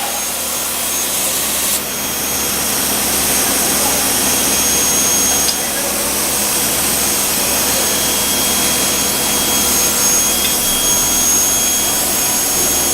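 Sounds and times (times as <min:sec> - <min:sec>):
furnace hissing: 0:00.0 - 0:12.9
high-pitched whine: 0:00.0 - 0:12.9.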